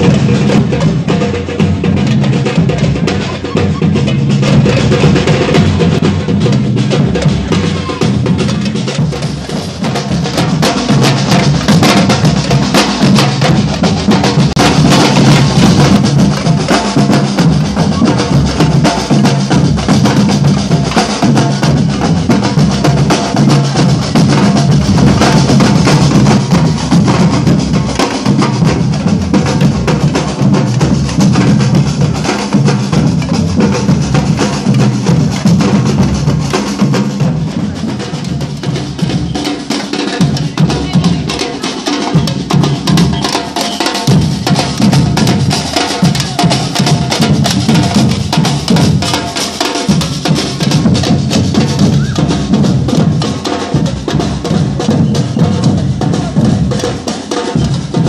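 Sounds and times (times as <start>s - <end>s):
deep bass drums: 0.0s - 39.4s, 44.1s - 49.2s, 49.9s - 57.0s
snare drums: 0.0s - 58.0s.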